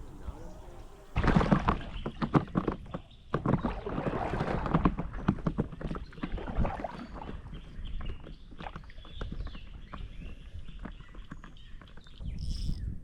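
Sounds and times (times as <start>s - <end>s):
splashing in shallow river water: 0.0s - 11.4s.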